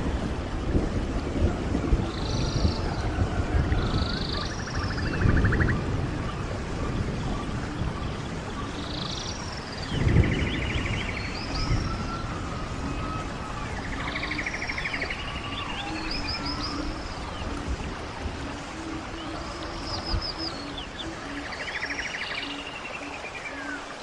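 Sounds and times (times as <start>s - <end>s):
songbirds singing: 0.0s - 24.0s
stream water running: 0.0s - 24.0s.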